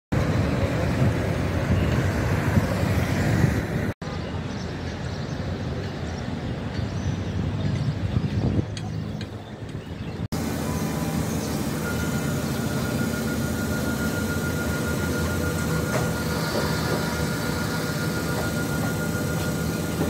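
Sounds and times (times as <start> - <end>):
vehicle rumble: 0.1 - 20.0.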